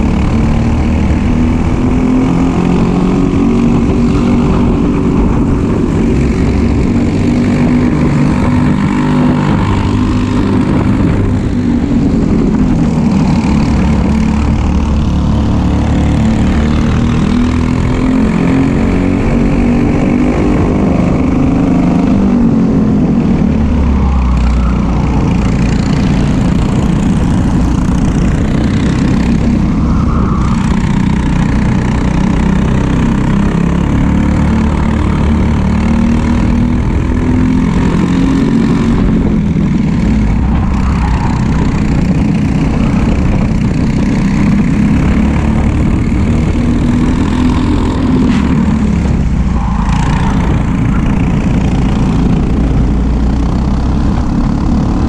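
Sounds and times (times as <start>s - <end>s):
kart engines racing: 0.0s - 55.0s
wind noise: 0.0s - 55.0s.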